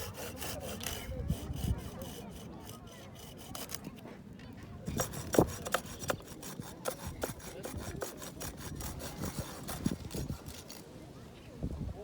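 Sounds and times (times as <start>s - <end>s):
firewood being cut by hand: 0.0s - 4.0s, 4.8s - 10.8s.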